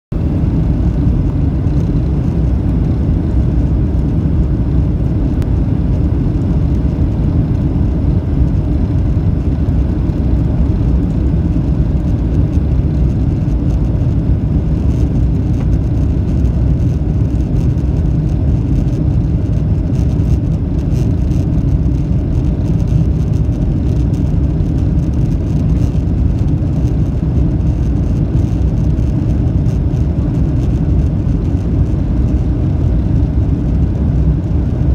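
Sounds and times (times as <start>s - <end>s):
jet engine rumble in cabin: 0.1s - 34.9s.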